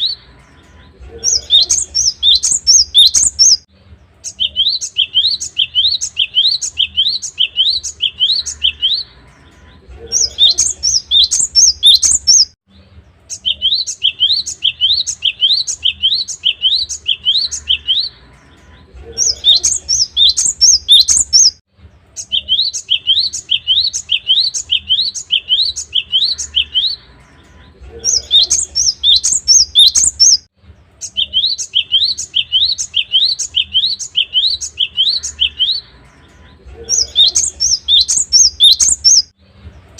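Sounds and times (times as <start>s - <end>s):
bird singing whistled notes: 0.0s - 9.2s, 10.1s - 18.2s, 19.1s - 21.6s, 22.2s - 27.1s, 28.0s - 36.0s, 36.8s - 39.4s.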